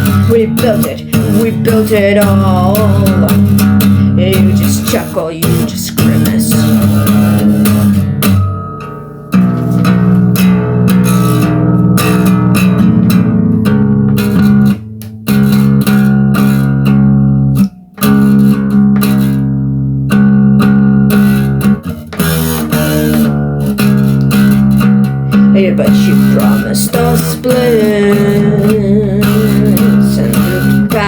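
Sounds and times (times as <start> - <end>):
bass line: 0.0 - 31.0
guitar playing: 0.0 - 31.0.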